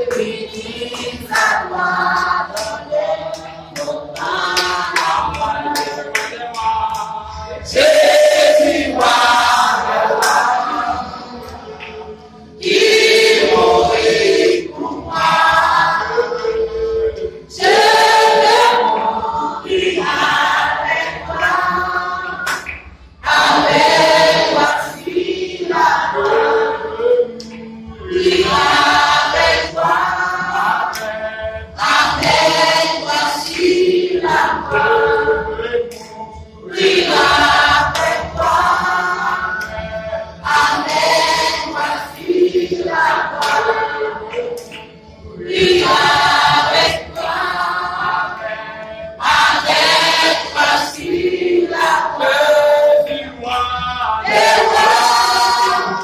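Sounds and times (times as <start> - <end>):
group singing a hymn a cappella: 0.0 - 56.0.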